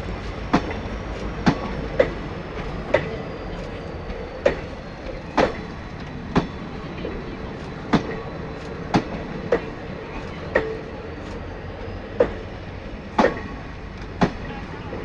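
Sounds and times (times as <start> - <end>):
steady train rumble: 0.0 - 15.0
train wheels clacking: 0.0 - 15.0.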